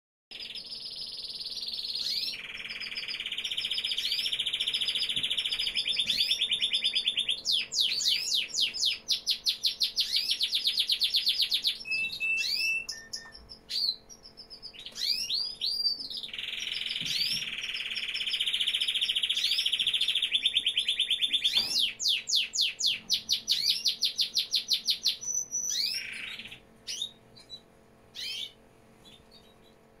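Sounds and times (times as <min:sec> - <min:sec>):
canary singing: 0:00.3 - 0:29.8.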